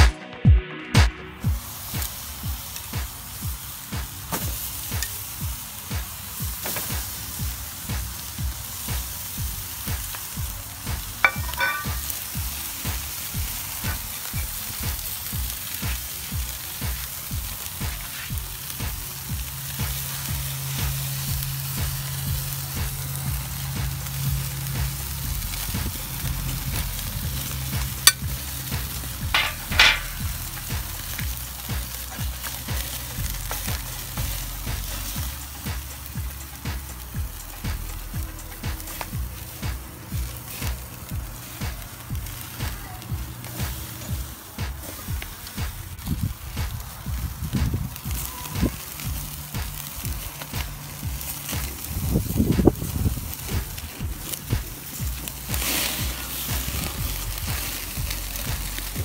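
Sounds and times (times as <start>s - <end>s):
background music with beat: 0.0s - 59.0s
steaks sizzling on grill: 1.4s - 59.0s.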